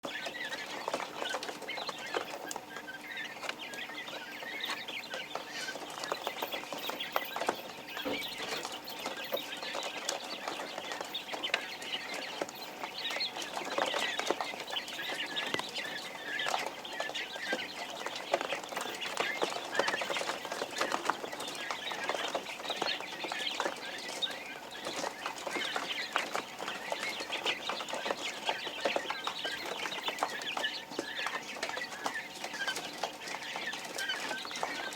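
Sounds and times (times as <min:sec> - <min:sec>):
quail chicks peeping: 0:00.0 - 0:34.9.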